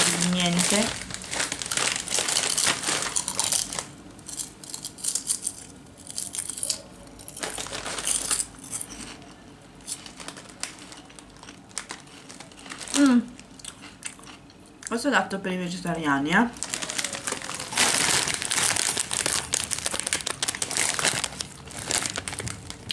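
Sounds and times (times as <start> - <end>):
crunching potato chip: 0.0 - 9.2, 9.8 - 14.4, 16.6 - 22.9.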